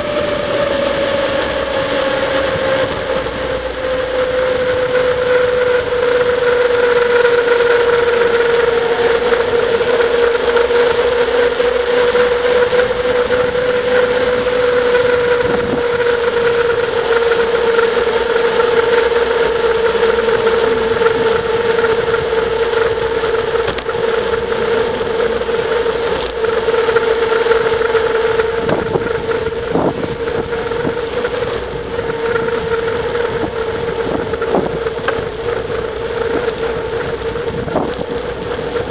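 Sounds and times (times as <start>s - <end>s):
bicycle tyres humming on road: 0.0s - 38.9s
wind rushing over microphone: 0.0s - 38.9s.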